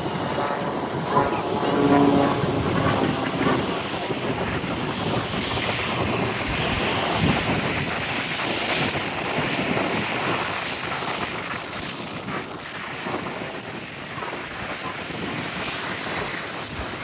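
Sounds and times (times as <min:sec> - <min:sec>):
airplane flying past: 0:00.0 - 0:17.0.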